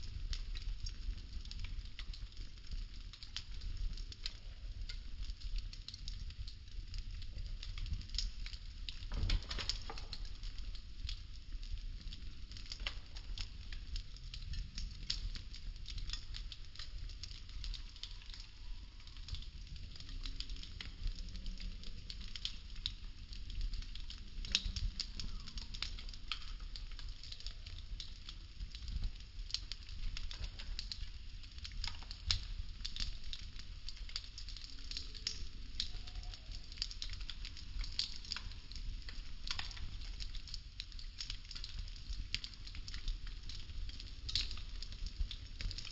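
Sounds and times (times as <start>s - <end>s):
burning wood crackling: 0.0s - 45.9s.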